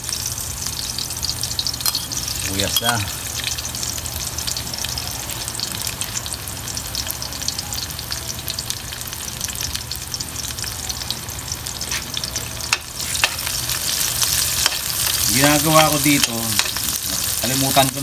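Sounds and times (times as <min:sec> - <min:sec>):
garlic and onion sizzling in oil: 0:00.0 - 0:18.0.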